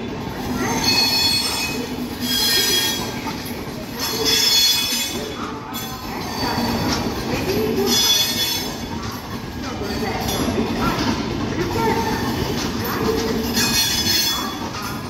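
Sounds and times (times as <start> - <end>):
train coaches running on rails: 0.0 - 15.0.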